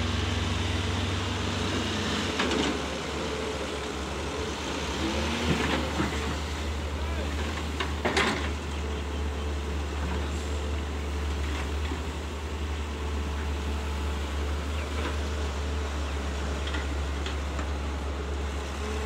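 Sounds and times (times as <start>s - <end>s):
excavator diesel engines droning: 0.0s - 19.0s.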